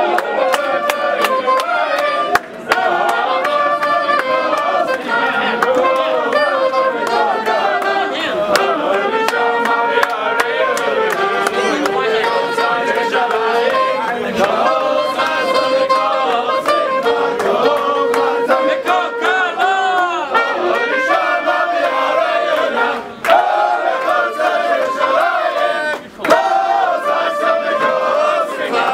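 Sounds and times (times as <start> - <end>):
men singing together: 0.0 - 28.9
trumpet melody: 0.0 - 28.9.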